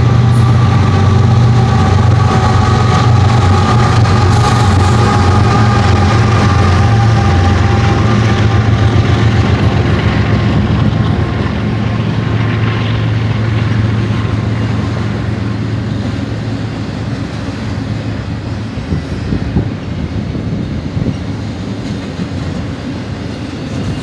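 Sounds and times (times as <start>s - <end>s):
locomotive engine drone: 0.0s - 24.0s
train wheels on rails: 0.0s - 24.0s.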